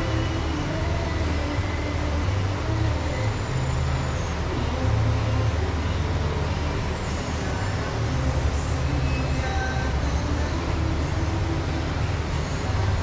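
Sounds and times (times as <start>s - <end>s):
motor vehicle engines rumbling: 0.0s - 13.0s.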